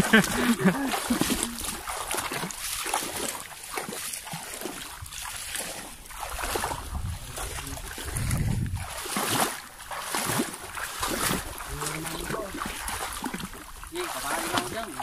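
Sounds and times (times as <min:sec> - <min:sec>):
mud and water squelching: 0:00.0 - 0:15.0.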